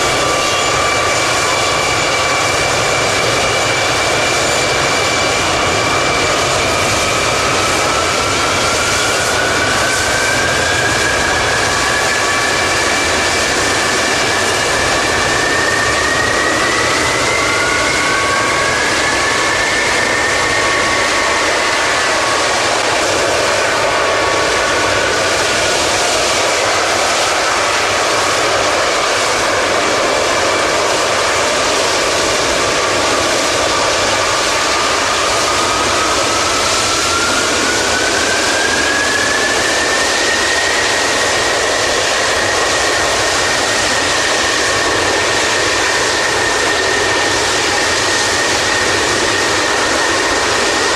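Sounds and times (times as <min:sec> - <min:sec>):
jet engines roaring: 0:00.0 - 0:50.9
turbine whine: 0:00.0 - 0:50.9.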